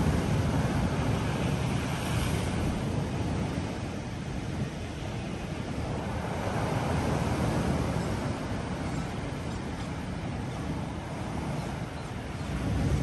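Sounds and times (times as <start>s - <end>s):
surf washing up slipway: 0.0s - 13.0s.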